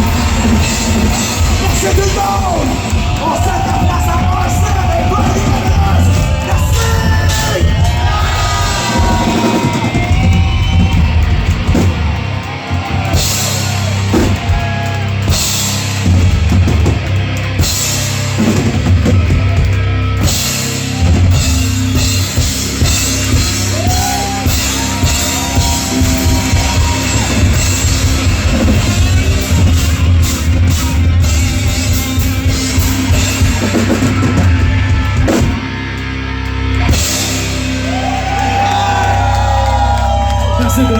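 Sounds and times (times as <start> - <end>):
pounding drum kit: 0.0 - 40.9
rock band playing: 0.0 - 40.9.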